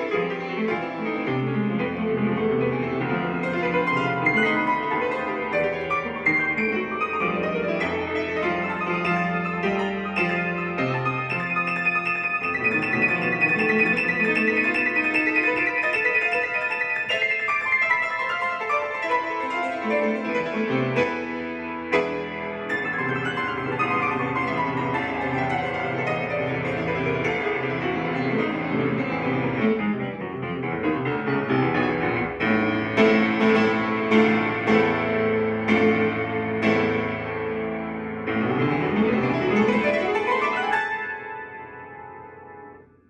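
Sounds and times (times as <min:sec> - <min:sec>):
solo piano playing fast passages: 0:00.0 - 0:43.0.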